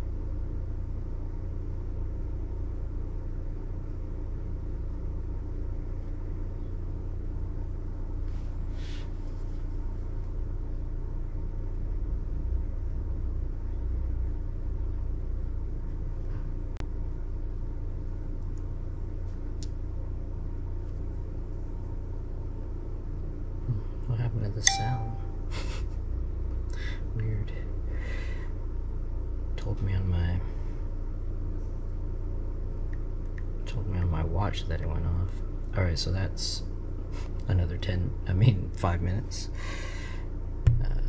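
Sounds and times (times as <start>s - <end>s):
faint hum: 0.0s - 41.0s
low background rumble: 0.0s - 41.0s.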